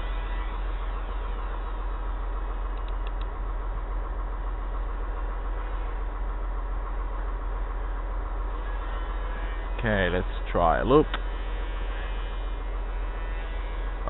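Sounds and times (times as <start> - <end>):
model plane motor droning: 0.0 - 3.3, 4.8 - 14.0.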